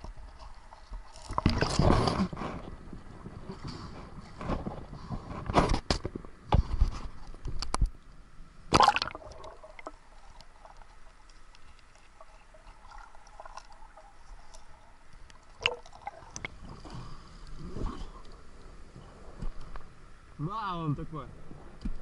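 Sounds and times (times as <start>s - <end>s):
faint underwater clicks: 0.0s - 19.9s
underwater ambience: 0.0s - 20.4s.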